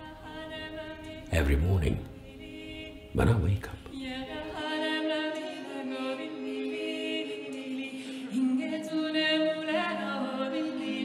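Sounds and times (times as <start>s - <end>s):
a cappella choir singing chords: 0.0s - 11.0s.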